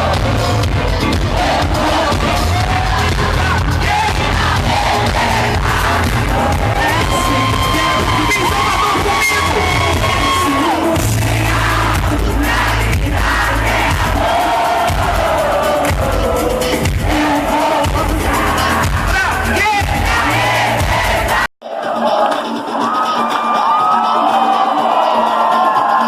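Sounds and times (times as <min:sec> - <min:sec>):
crowd cheering: 0:00.0 - 0:26.0
live band music: 0:00.0 - 0:26.0.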